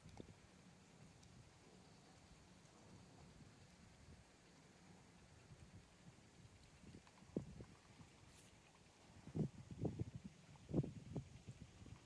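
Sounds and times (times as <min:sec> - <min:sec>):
faint low rumble with hiss: 0:00.0 - 0:12.0.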